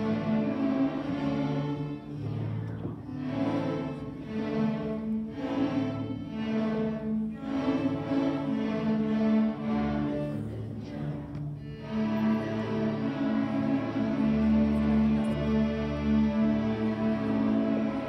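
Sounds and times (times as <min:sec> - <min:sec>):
low cello line: 0:00.0 - 0:18.0
string orchestra playing: 0:00.0 - 0:18.0.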